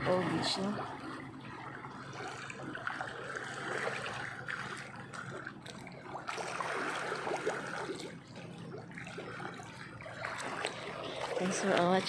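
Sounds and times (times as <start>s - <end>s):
small waves lapping over rocks: 0.0s - 12.0s.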